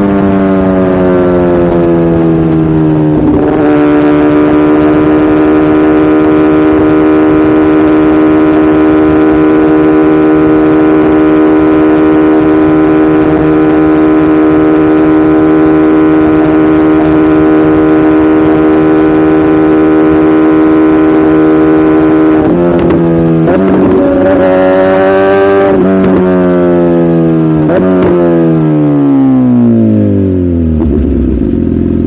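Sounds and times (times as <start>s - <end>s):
motorcycle engine running loud: 0.0s - 32.0s.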